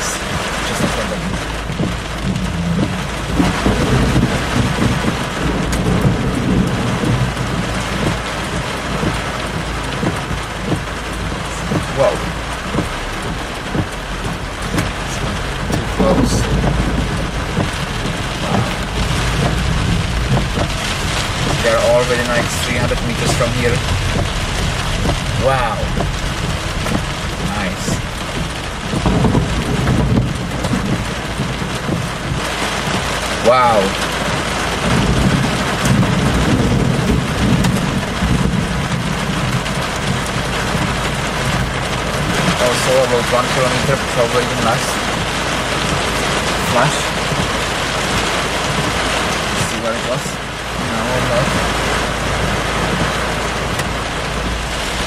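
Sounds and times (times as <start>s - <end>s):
heavy rain pouring: 0.0s - 55.0s
thunder rumbling: 0.0s - 55.0s.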